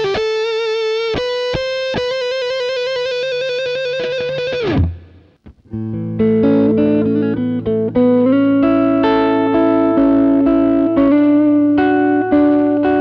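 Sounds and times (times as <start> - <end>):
electric guitar through amp: 0.0 - 13.0.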